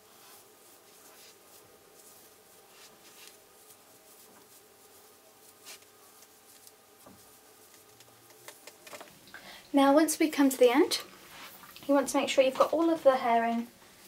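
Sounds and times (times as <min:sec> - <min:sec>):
hair rustling and scratching: 0:00.0 - 0:09.2, 0:10.3 - 0:14.0.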